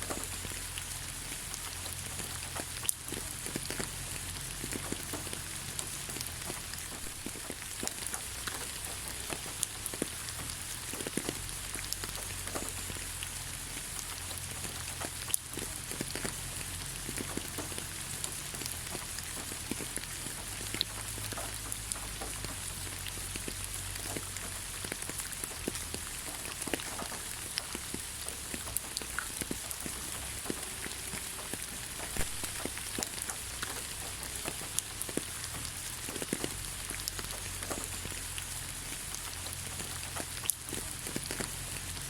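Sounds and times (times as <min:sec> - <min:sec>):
rain falling on ground: 0:00.0 - 0:42.0
raindrops tapping: 0:00.0 - 0:42.0.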